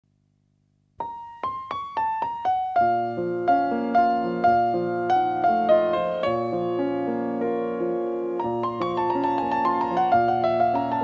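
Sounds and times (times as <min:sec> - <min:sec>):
piano music: 0:01.0 - 0:11.0.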